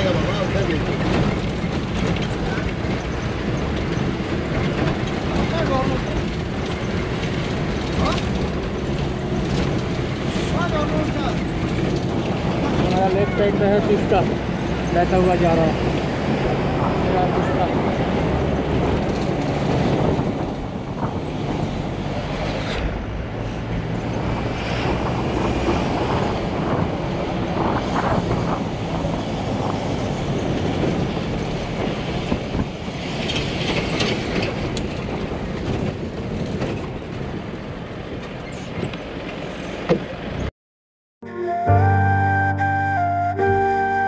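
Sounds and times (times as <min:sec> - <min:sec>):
bus body rattling: 0:00.0 - 0:22.6, 0:23.8 - 0:40.5
bus engine droning: 0:00.0 - 0:40.5
road noise: 0:00.0 - 0:40.5, 0:41.2 - 0:44.0.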